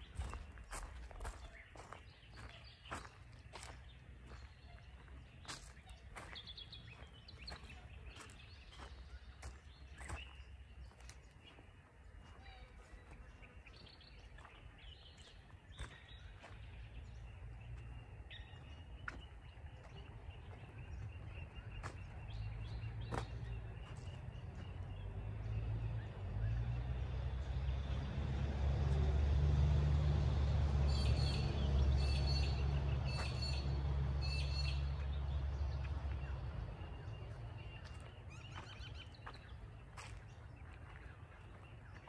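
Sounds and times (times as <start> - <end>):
bird chirps: 0.0 - 26.8, 30.8 - 42.0.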